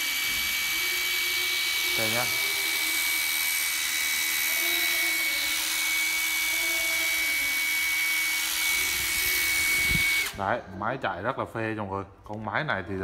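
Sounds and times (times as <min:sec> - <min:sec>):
cordless drill motor whine: 0:00.0 - 0:10.5.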